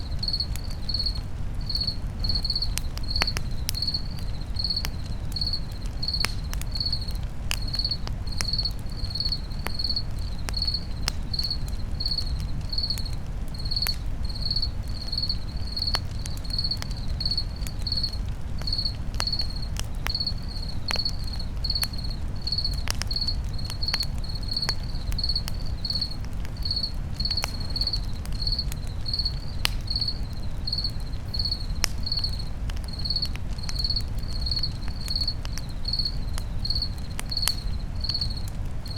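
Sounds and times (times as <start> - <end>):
campfire crackling and popping: 0.0 - 38.9
crickets chirping: 0.0 - 38.9.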